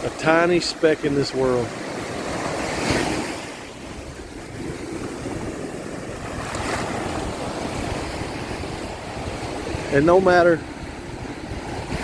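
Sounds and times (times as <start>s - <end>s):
surf washing onto beach: 0.0s - 12.0s
wind rumbling on microphone: 1.1s - 12.0s.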